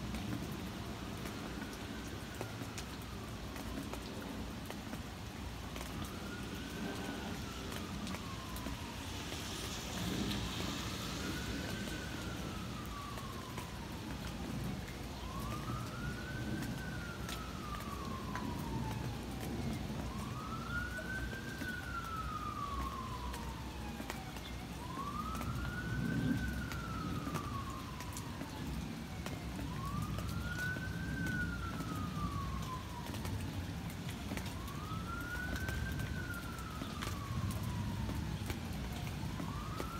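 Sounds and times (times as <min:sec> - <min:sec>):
emergency vehicle siren wailing: 0:00.0 - 0:39.9.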